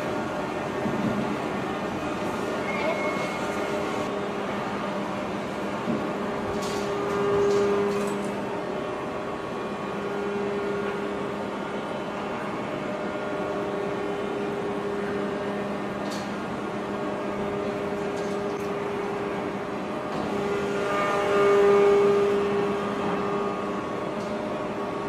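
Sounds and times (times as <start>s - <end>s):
heavy machinery humming: 0.0s - 25.0s.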